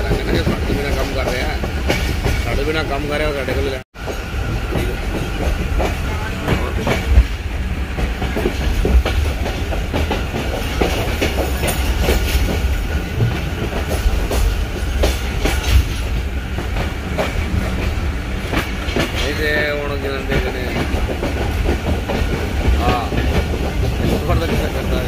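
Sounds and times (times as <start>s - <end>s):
train rumbling: 0.0s - 25.0s
wheels clacking on rails: 0.0s - 25.0s.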